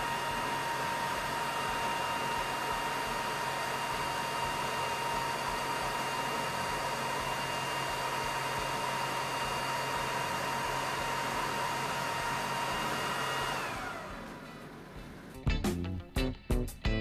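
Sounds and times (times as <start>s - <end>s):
laser engraver fans whirring: 0.0s - 15.4s.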